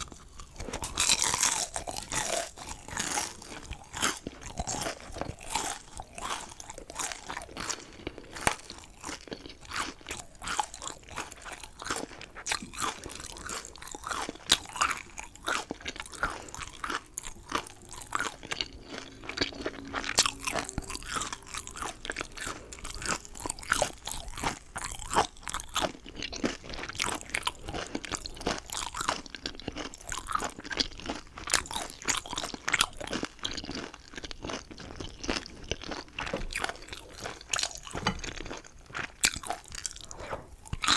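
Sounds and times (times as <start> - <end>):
crunchy chewing: 0.0 - 40.9.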